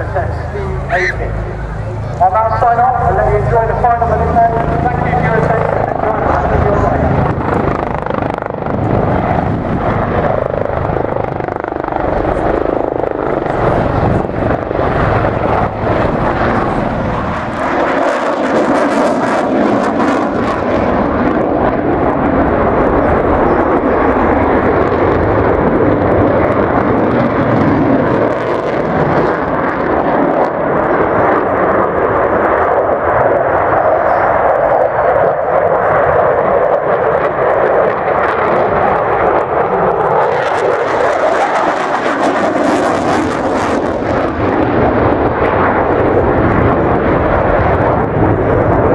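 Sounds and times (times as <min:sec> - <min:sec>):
aircraft engine rushing overhead: 0:00.0 - 0:48.9.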